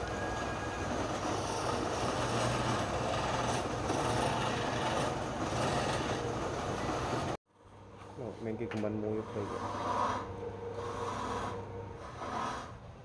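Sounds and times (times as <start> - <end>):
lathe motor humming: 0.0 - 7.4, 9.1 - 12.7
tool rasping on spinning wood: 0.0 - 7.4, 9.0 - 12.8.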